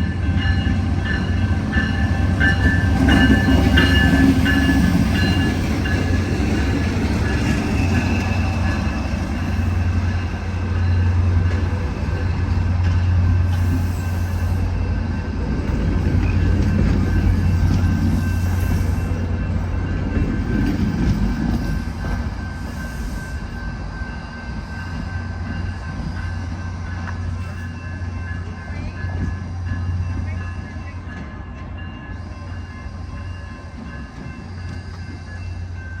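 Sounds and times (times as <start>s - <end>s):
diesel locomotive drone: 0.0s - 36.0s
train wheels rolling on rails: 0.0s - 36.0s.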